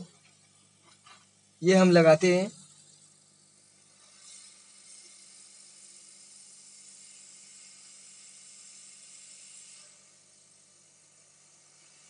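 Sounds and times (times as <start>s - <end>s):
hot air gun hissing: 1.6s - 12.0s.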